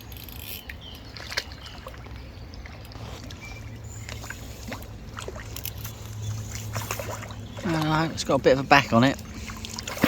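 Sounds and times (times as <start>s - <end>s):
water sloshing and lapping: 0.0s - 10.0s.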